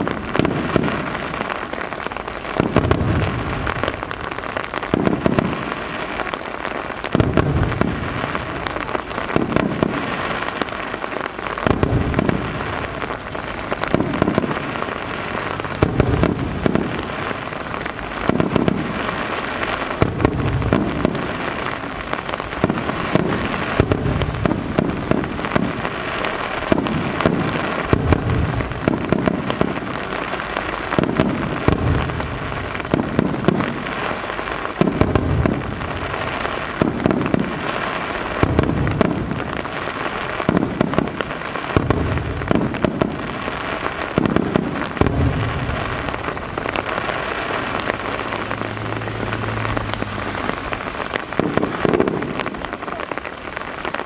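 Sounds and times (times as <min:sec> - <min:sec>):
fireworks booming: 0:00.0 - 0:54.0
heavy rain hissing: 0:00.0 - 0:54.0.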